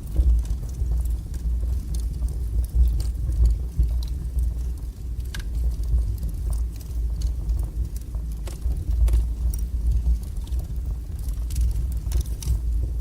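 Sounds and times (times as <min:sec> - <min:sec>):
burning logs crackling: 0:00.0 - 0:13.0
fire flames roaring: 0:00.0 - 0:13.0.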